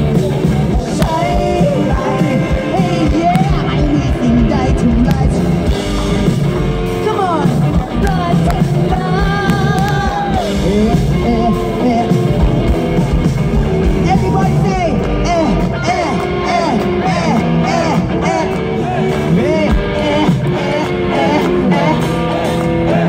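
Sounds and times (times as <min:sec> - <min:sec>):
drums: 0:00.0 - 0:23.0
electric guitar: 0:00.0 - 0:23.0
person singing: 0:00.0 - 0:23.0.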